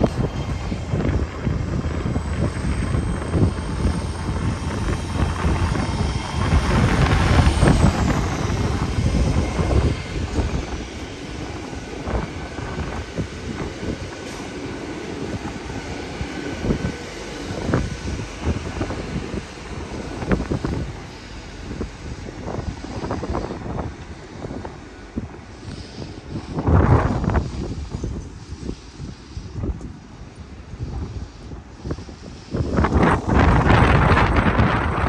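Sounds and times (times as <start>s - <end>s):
train diesel engines: 0.0s - 35.0s
train wheels rumbling on track: 0.0s - 35.0s.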